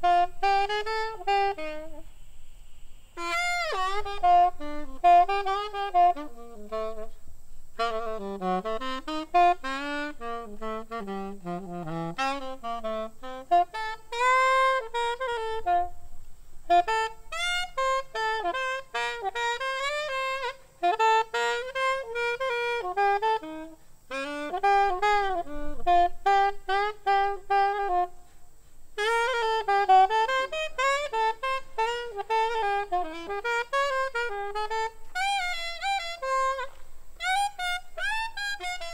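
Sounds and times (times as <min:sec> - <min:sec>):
solo saxophone jazz: 0:00.0 - 0:38.9.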